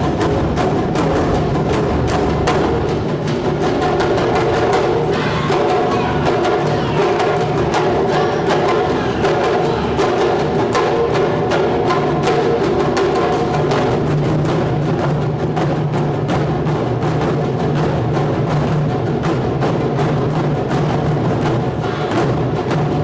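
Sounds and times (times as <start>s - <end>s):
taiko drums playing rapidly: 0.0s - 23.0s.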